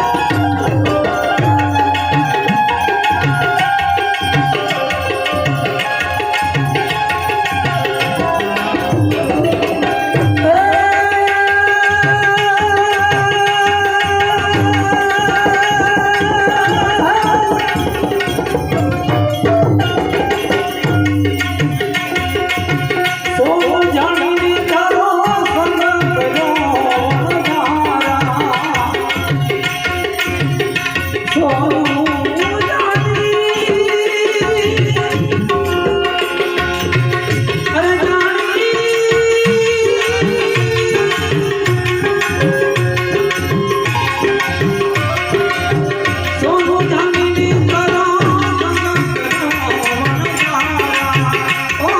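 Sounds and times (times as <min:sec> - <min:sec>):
tabla rhythm: 0:00.0 - 0:51.9.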